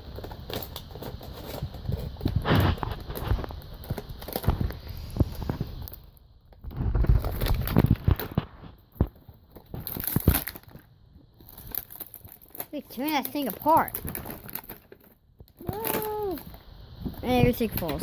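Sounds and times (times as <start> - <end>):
plastic and cardboard crinkling: 0.0 - 18.0.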